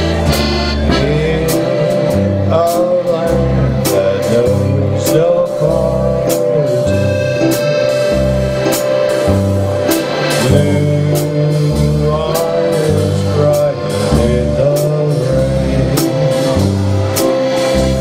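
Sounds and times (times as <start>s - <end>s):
bass line: 0.0s - 18.0s
held chords: 0.0s - 18.0s.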